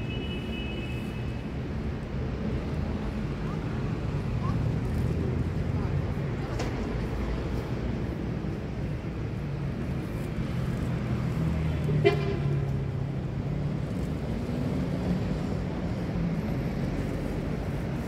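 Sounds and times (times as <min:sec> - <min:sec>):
street traffic hum: 0:00.0 - 0:18.0.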